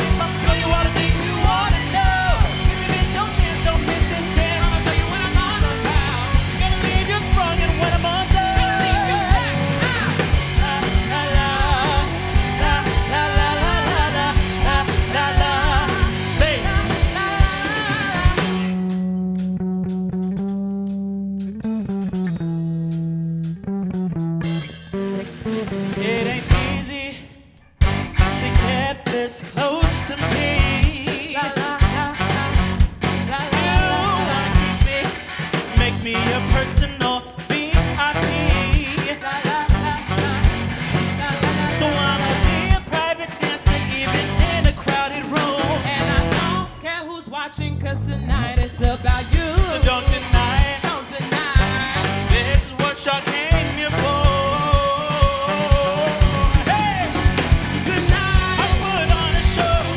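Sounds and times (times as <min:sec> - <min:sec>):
person singing: 0:00.0 - 0:18.8, 0:25.7 - 0:27.5, 0:28.1 - 0:59.9
live band playing: 0:00.0 - 0:27.2, 0:27.8 - 0:47.1, 0:48.0 - 0:59.9
drums: 0:00.0 - 0:59.9.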